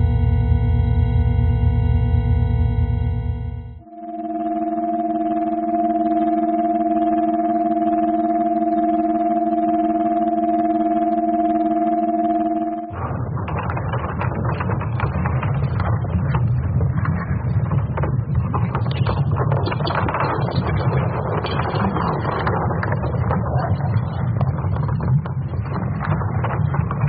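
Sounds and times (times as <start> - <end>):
dense crackling static: 0.0 - 27.0
steady low rumble: 0.0 - 27.0.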